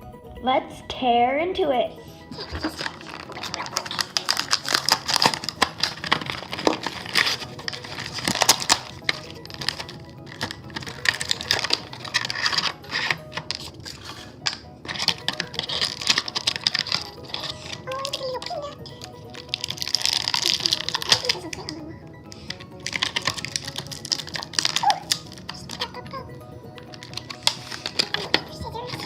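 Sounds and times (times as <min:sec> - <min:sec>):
plastic and cardboard crackling: 0:02.2 - 0:29.0.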